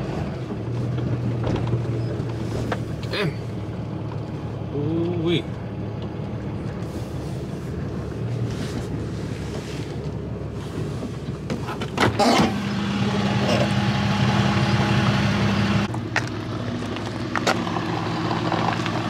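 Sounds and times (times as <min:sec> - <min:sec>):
tow truck engine running: 0:00.0 - 0:19.0.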